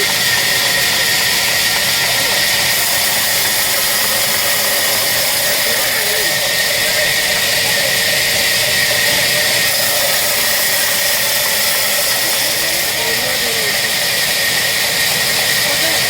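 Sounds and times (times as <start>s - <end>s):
power tool whirring: 0.0s - 16.0s.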